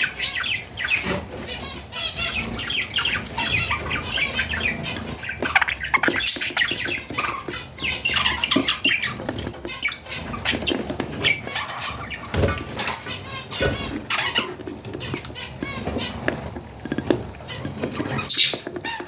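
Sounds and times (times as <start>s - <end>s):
chicks squawking harshly: 0.0s - 19.0s.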